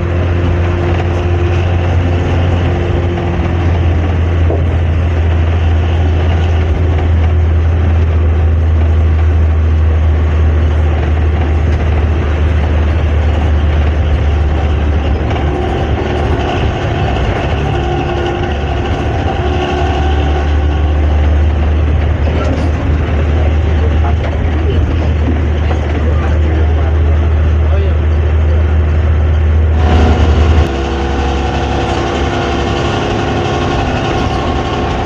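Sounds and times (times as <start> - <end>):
bus diesel engine droning: 0.0 - 35.0.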